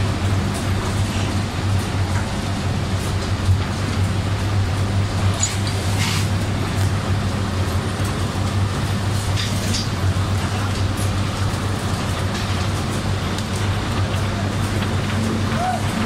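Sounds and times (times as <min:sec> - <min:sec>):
diesel machinery drone: 0:00.0 - 0:16.0.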